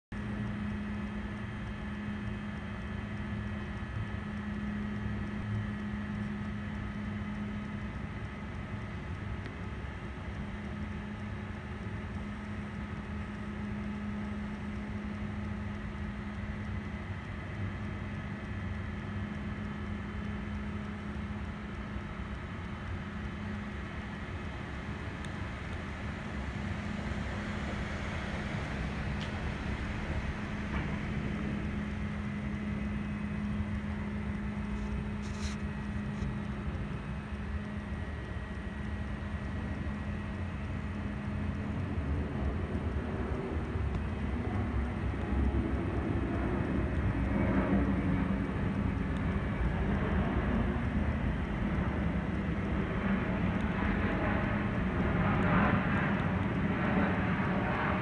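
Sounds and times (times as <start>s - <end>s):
mechanical hum: 0.1s - 58.0s
faint high whines: 0.2s - 58.0s.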